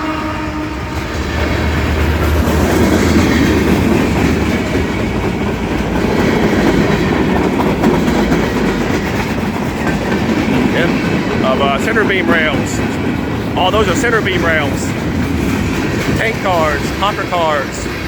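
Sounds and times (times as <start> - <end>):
freight train rumbling past: 0.0 - 18.0
train wheels clattering on rails: 0.0 - 18.0.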